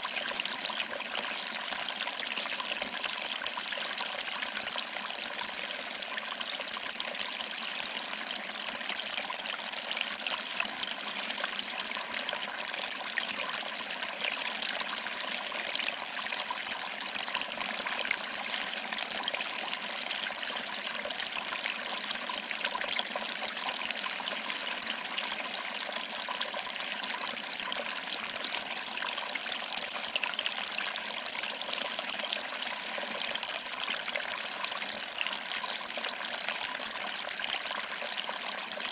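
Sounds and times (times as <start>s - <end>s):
water trickling over rocks: 0.0s - 38.9s.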